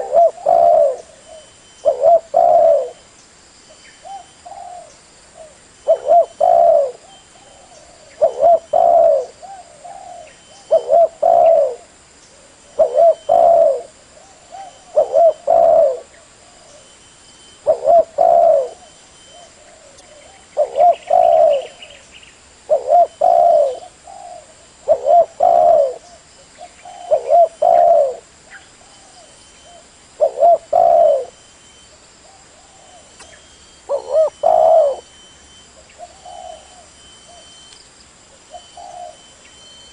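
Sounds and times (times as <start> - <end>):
dove cooing: 0.0 - 3.0, 4.0 - 17.0, 17.6 - 22.0, 22.7 - 31.4, 32.2 - 35.2, 35.8 - 37.6, 38.4 - 39.4.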